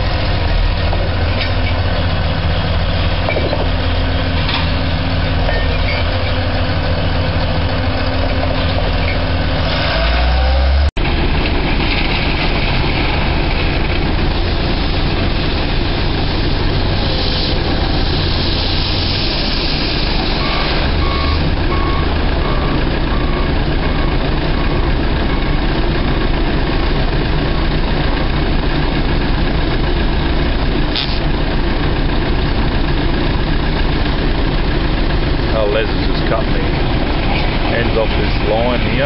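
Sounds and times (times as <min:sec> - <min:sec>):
truck engine running: 0:00.0 - 0:39.0.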